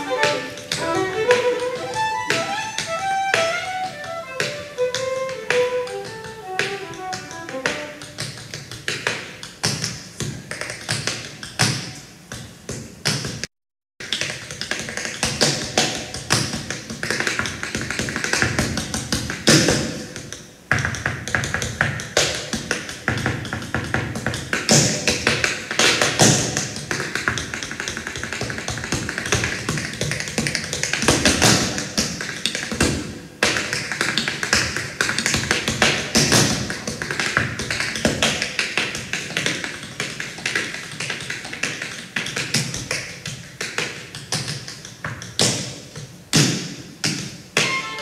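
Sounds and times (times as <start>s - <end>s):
tap shoes striking stage floor: 0.0s - 48.0s.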